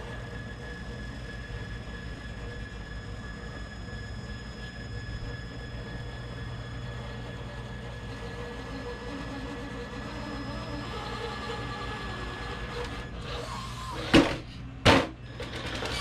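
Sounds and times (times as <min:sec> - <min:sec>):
thin constant tones: 0:00.0 - 0:13.3
electric motor whirring: 0:00.0 - 0:14.4, 0:15.3 - 0:16.0.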